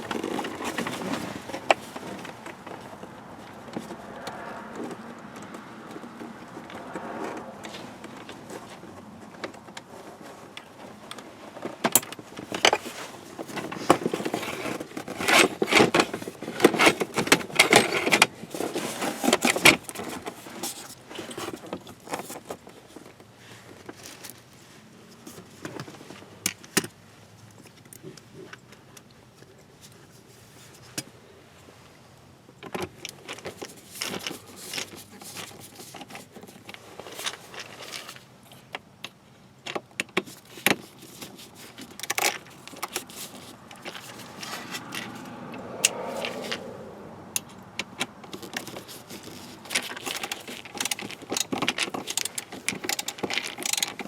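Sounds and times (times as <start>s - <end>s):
tools and parts rattling: 0.0s - 4.0s, 4.8s - 24.4s, 32.6s - 46.6s, 47.4s - 54.0s.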